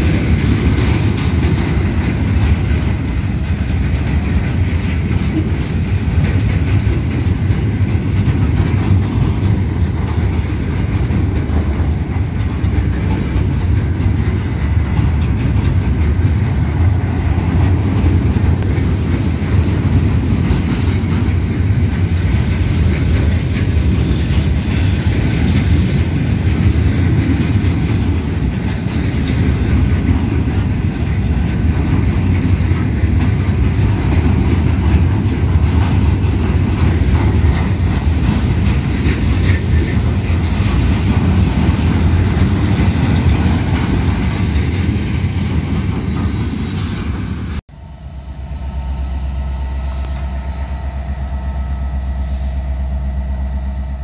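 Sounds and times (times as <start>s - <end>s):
clickety-clack over rail joints: 0.0s - 47.6s
train wheels rumbling on rails: 0.0s - 54.0s.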